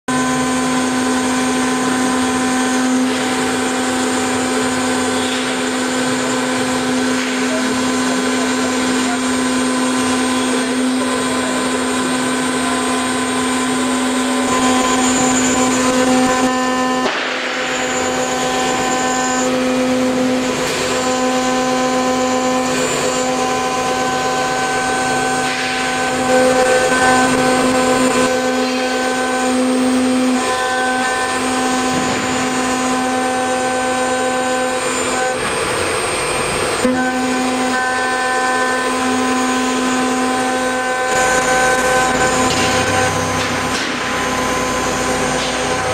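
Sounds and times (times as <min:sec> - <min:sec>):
router spindle humming: 0:00.1 - 0:45.9
hiss and chatter of cutting: 0:00.2 - 0:45.9.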